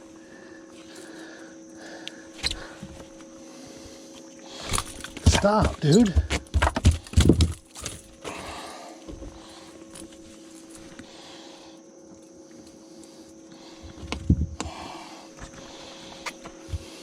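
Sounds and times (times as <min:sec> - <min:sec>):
steady two-tone hum: 0:00.0 - 0:17.0.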